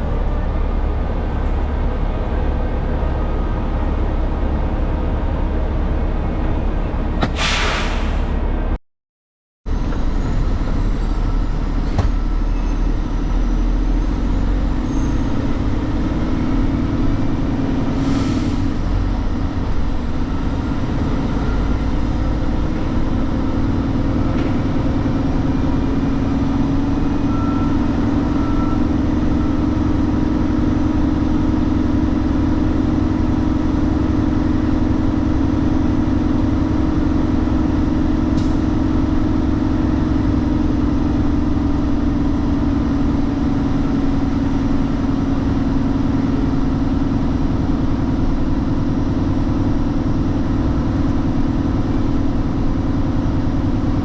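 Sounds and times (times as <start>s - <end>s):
truck engine droning: 0.0s - 8.8s, 9.7s - 54.0s.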